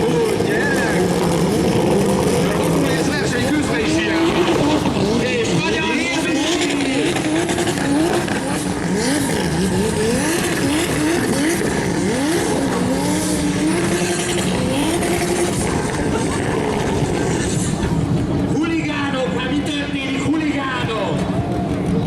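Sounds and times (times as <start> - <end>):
turbocharged car engine revving: 0.0 - 22.0.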